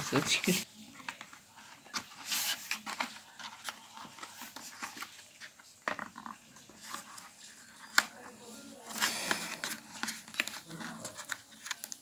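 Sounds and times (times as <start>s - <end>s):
packaging rustling and scraping: 0.0s - 12.0s.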